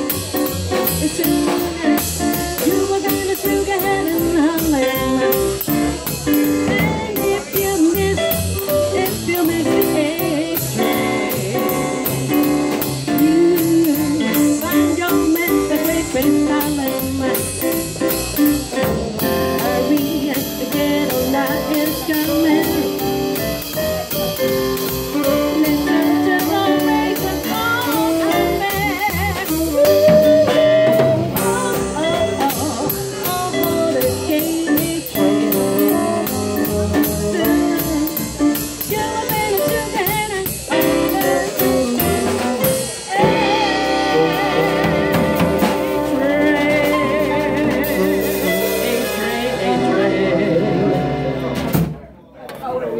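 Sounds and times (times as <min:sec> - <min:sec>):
drum kit with cymbal strokes: 0:00.0 - 0:52.1
double bass: 0:00.0 - 0:52.2
piano: 0:00.0 - 0:52.2.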